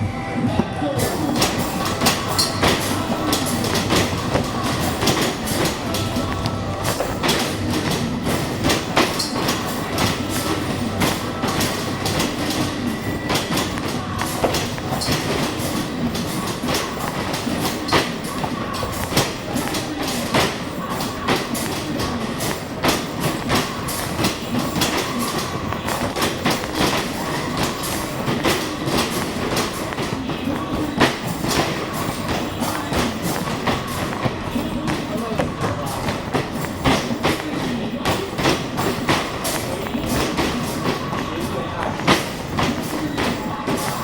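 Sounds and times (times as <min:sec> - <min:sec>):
basketballs striking backboard and rim: 0:01.0 - 0:41.2.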